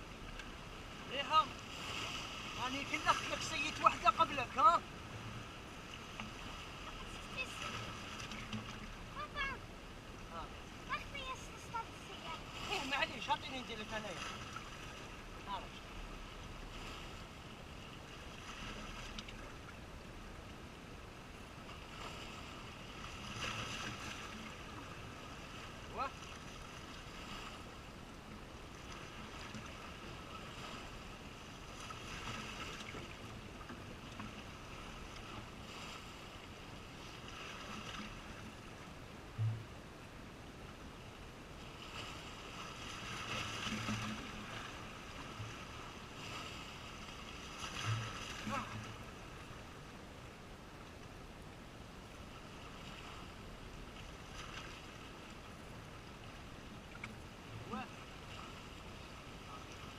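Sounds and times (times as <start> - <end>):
calm sea: 0.0 - 59.9
wind: 0.0 - 59.9.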